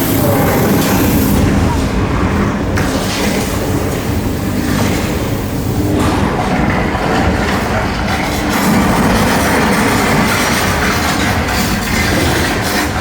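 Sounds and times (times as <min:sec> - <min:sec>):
rumbling and rattling effects: 0:00.0 - 0:13.0
train crashing clatter: 0:00.0 - 0:13.0.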